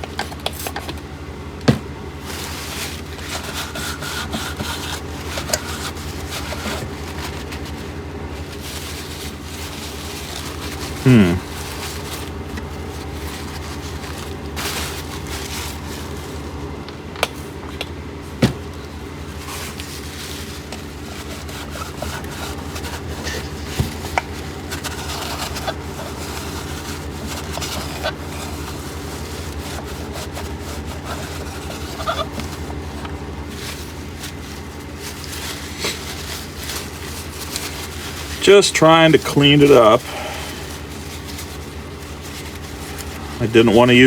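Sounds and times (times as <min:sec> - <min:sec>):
scrubbing and rubbing plastic: 0:00.0 - 0:16.8, 0:17.8 - 0:44.0
low machine hum: 0:00.0 - 0:44.0.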